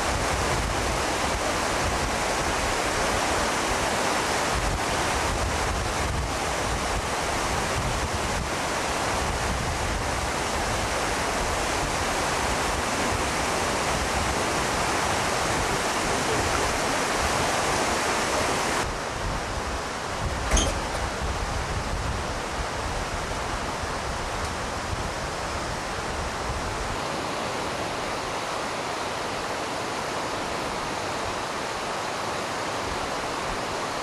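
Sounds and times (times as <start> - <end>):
steady rushing outdoor noise: 0.0 - 34.0.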